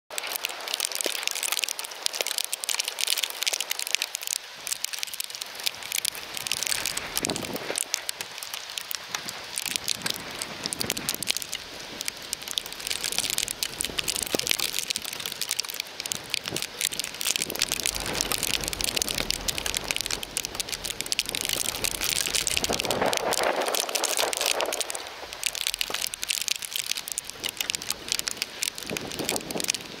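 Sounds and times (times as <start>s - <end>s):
graupel and snow pattering: 0.1s - 30.0s.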